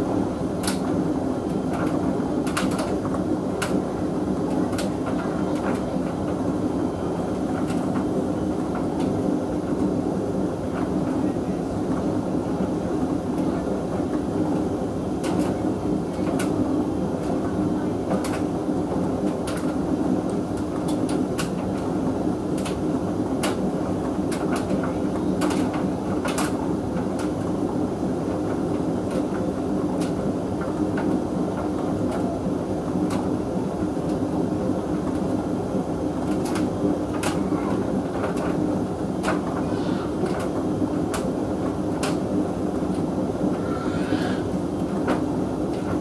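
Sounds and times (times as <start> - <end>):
tumble dryer motor hum: 0.0 - 46.0.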